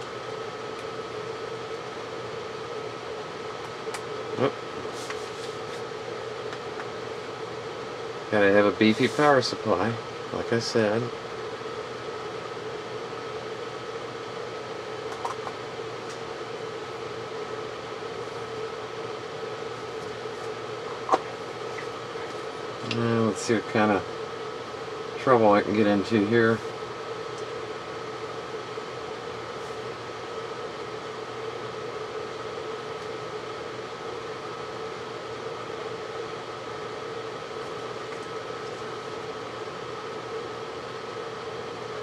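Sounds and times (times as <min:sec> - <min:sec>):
background hum and hiss: 0:00.0 - 0:42.0.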